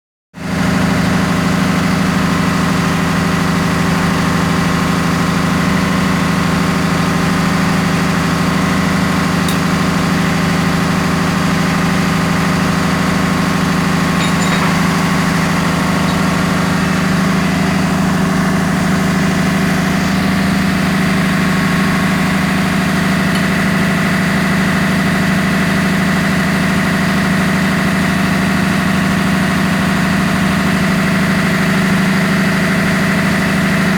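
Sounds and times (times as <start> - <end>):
engine room machinery drone: 0.5 - 33.9.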